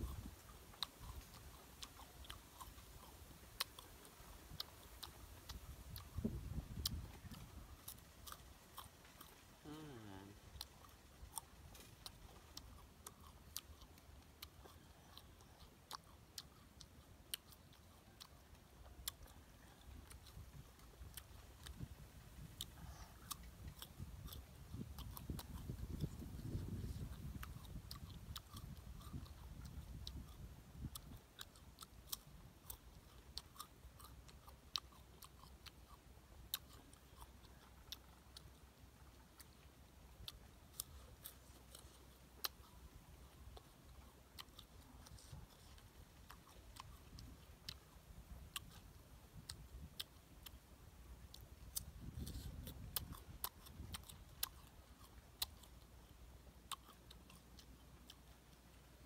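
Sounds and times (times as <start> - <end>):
crunchy fruit chewing: 0.0 - 59.0.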